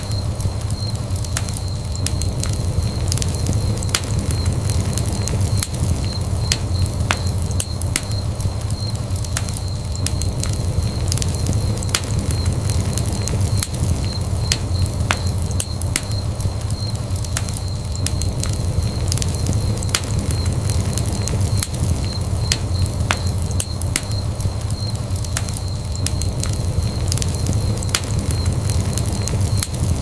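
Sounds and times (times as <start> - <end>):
logs crackling and popping: 0.0 - 30.0
wood fire burning: 0.0 - 30.0.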